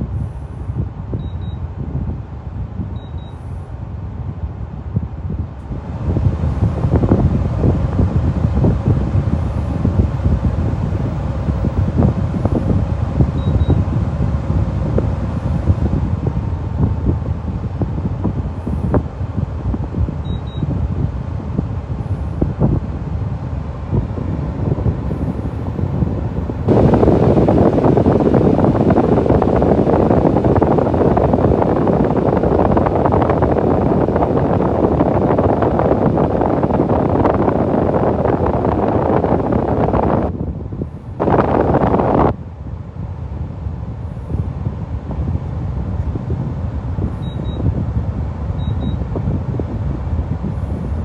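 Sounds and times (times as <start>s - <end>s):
air conditioner fan running: 0.0s - 51.0s.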